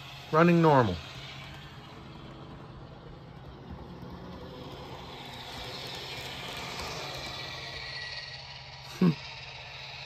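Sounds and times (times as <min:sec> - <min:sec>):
model train motor hum: 0:00.0 - 0:10.0
wheels rolling on rails: 0:00.0 - 0:10.0.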